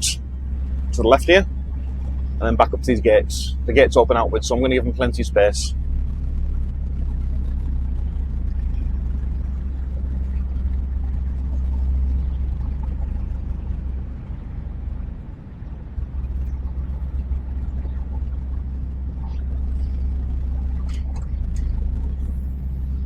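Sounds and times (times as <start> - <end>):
truck engine rumble from cab: 0.0 - 23.0.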